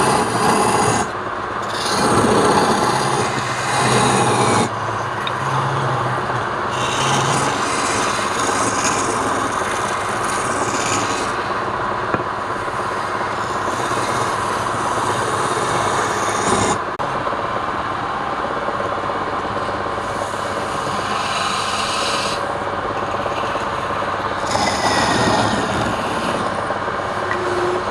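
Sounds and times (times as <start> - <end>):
power tool cutting wood: 0.0 - 11.6, 12.6 - 16.8, 20.0 - 27.4.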